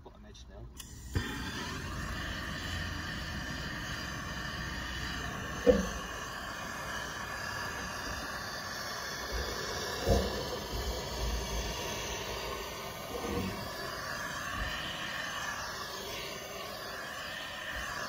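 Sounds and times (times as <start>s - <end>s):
blowtorch hissing: 0.8s - 18.0s.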